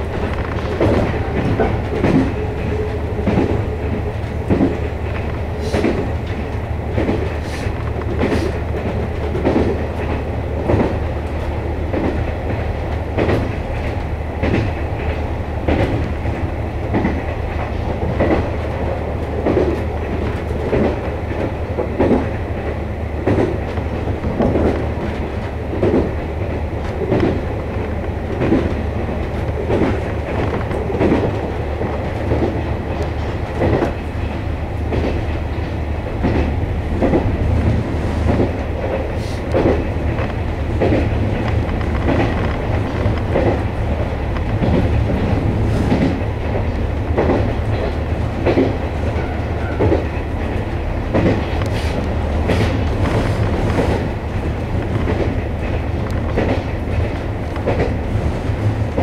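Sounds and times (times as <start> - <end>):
train wheels clacking over rail joints: 0.0 - 59.0.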